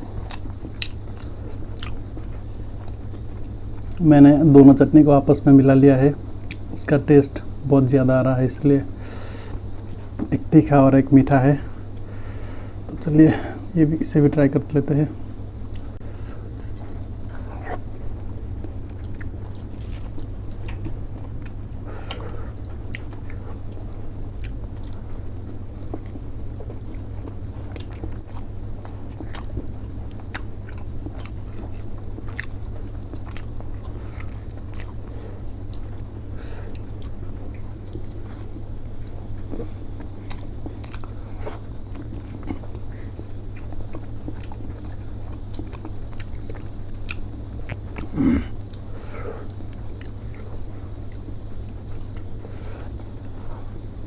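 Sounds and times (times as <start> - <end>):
biting and wet chewing: 0.0 - 4.7, 6.4 - 6.9, 15.3 - 54.0
steady low hum: 0.0 - 54.0.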